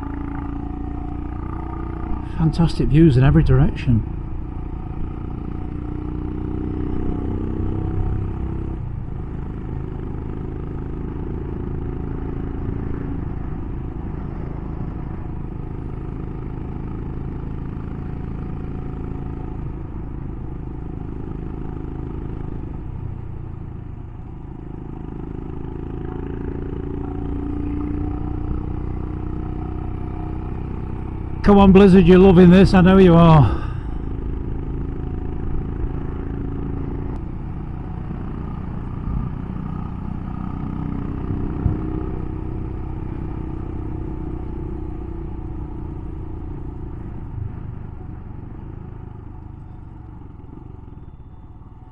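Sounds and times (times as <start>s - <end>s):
motorcycle engine running: 0.0s - 3.4s, 4.0s - 51.6s.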